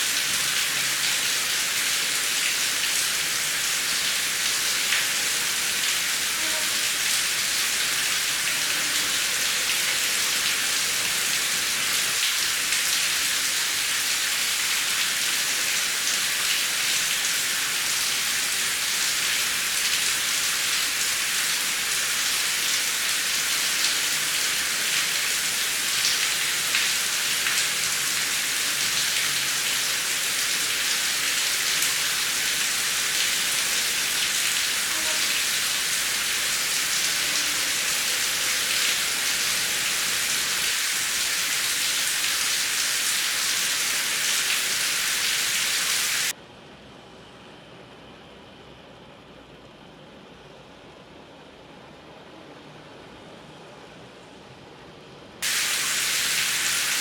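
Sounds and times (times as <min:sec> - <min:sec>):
heavy rain hissing: 0:00.0 - 0:13.8, 0:15.6 - 0:46.3, 0:55.4 - 0:57.0.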